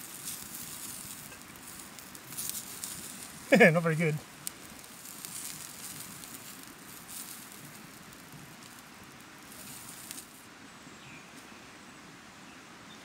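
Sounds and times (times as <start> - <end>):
meat sizzling on a grill: 0.0 - 10.5
campfire crackling: 0.0 - 10.8.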